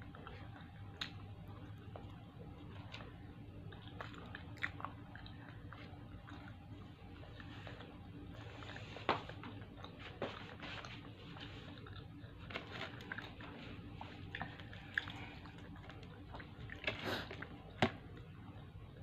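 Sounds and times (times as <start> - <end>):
person chewing crunchy food: 0.0 - 18.8.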